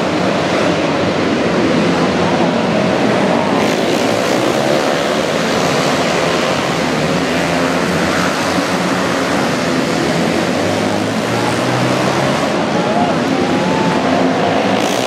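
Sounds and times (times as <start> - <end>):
racing motorcycle engines droning: 0.0 - 15.0.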